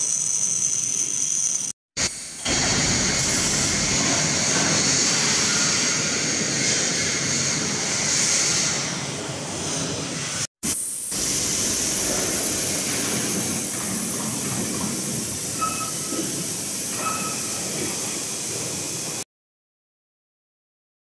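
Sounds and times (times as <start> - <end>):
workshop machinery noise: 0.0 - 19.2.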